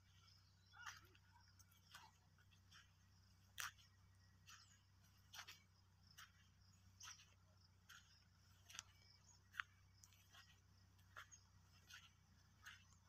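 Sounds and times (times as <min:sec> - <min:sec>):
faint footsteps on dry soil: 0:00.0 - 0:13.0.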